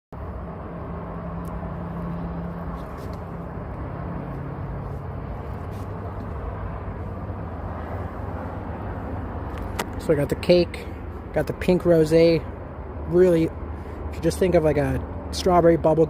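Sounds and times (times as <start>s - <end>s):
traffic rumble: 0.1s - 16.0s
low engine hum: 0.2s - 16.0s.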